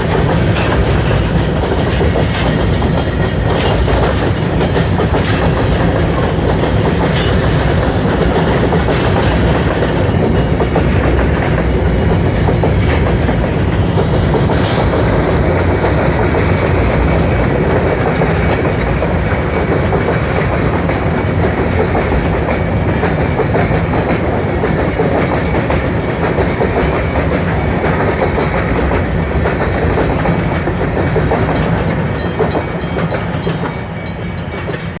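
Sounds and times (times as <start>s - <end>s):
freight train wheels clattering: 0.0s - 35.0s.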